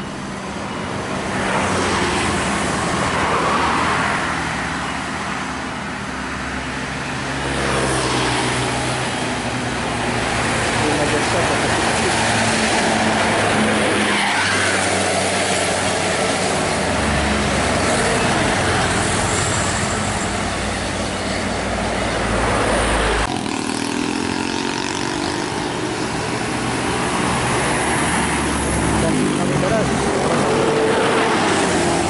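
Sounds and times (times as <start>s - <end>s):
diesel buses and trucks passing: 0.0s - 32.0s
tyre and road noise: 0.0s - 32.0s.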